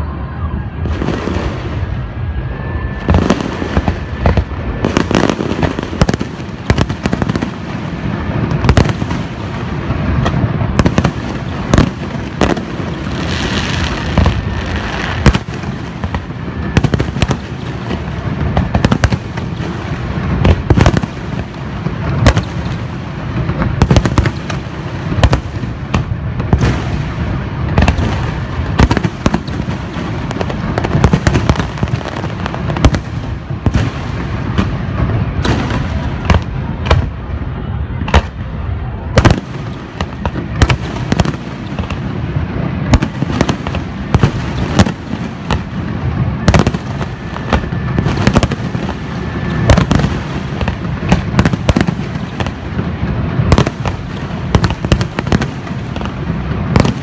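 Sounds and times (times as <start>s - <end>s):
fireworks bangs: 0.0s - 57.0s
rumble of echoing detonations: 0.0s - 57.0s.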